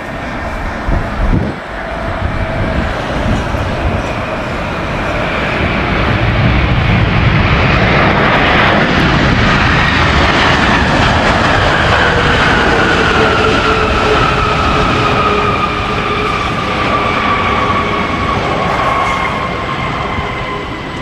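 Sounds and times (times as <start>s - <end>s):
falling jet engine whine: 0.0s - 21.0s
jet engines roaring past: 0.0s - 21.0s.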